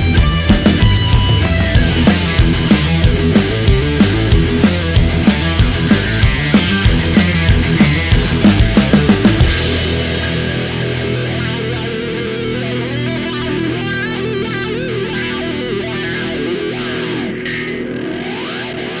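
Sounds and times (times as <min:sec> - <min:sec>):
rock music with electric guitar: 0:00.0 - 0:19.0.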